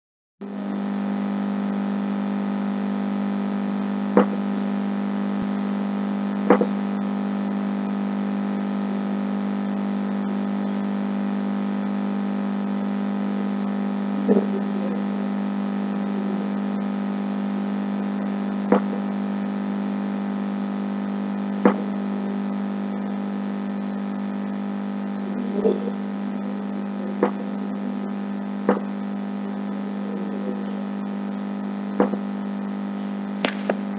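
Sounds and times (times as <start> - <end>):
electrical hum: 0.4 - 33.9.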